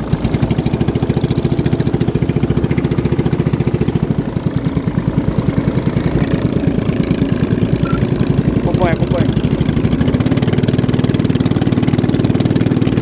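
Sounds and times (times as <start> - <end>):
boat engine pulsing: 0.0 - 13.0.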